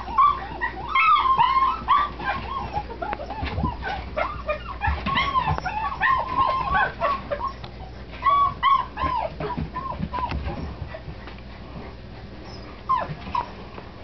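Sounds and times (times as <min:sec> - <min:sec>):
puppies whimpering and yipping: 0:00.0 - 0:13.7.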